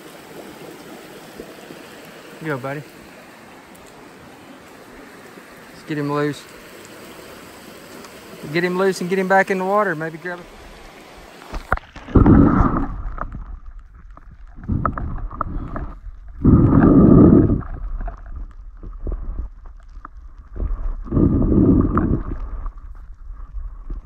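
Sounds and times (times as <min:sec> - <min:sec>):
underwater creek rushing: 0:00.0 - 0:24.0.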